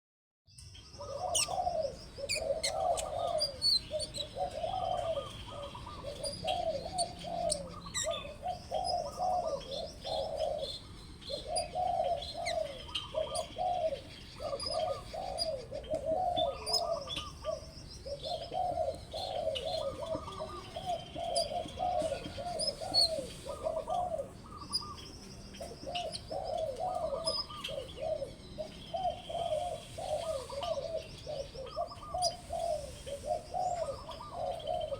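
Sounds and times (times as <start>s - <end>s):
small bird chirps and trills: 0.5s - 34.9s
bird cooing: 0.9s - 34.9s.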